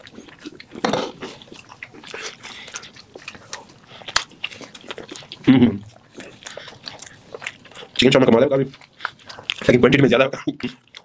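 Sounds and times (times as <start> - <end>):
person chewing wet mouth sounds: 0.0 - 11.0.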